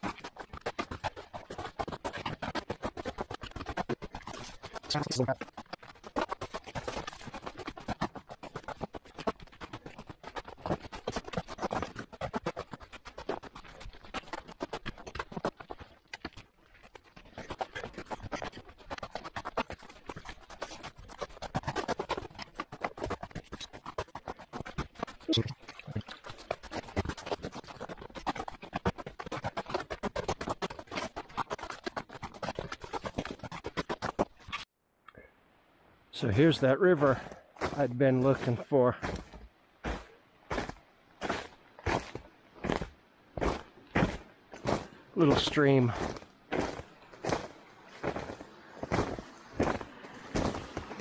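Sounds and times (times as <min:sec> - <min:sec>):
footsteps crunching on snow: 0:00.0 - 0:34.7, 0:36.2 - 0:51.0.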